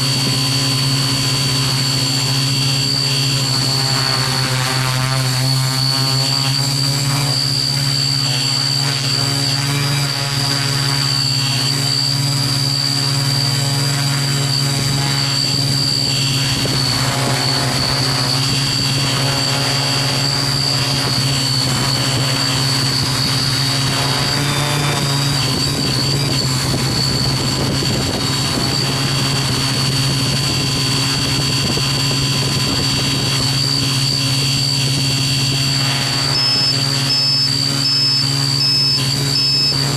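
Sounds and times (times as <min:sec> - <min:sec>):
quadcopter drone humming: 0:00.0 - 0:39.9.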